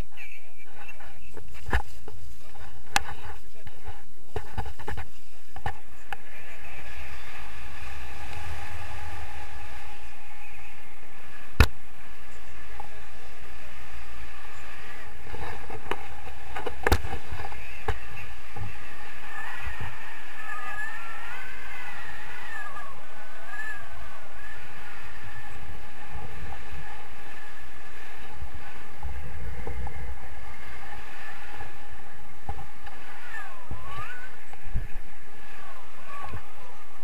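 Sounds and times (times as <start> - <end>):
rushing wind: 0.0 - 37.0
faint wavering whistle-like tone: 5.8 - 16.6, 17.4 - 37.0.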